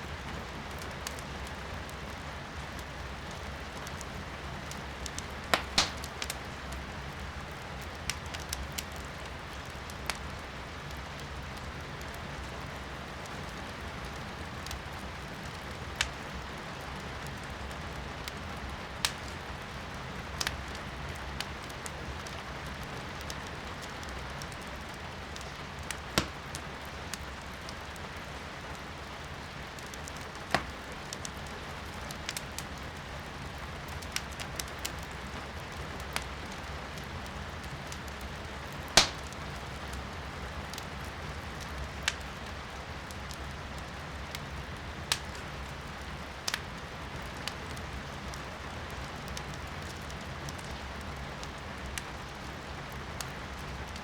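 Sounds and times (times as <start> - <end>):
firewood crackling in a fireplace: 0.0 - 54.0.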